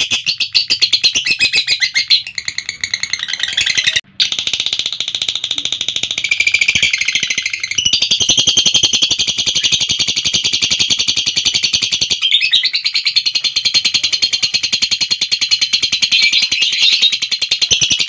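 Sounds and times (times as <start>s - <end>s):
lovebird buzzy chatter: 0.0s - 18.0s.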